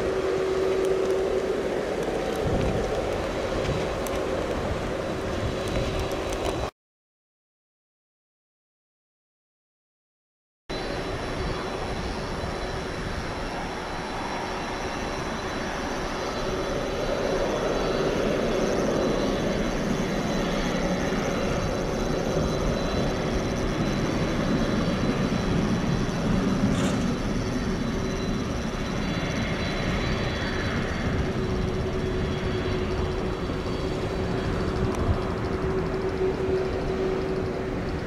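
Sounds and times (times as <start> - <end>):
engine whining tone: 0.0 - 6.7, 10.7 - 38.0
jet engines taxiing: 0.0 - 6.7, 10.7 - 38.0.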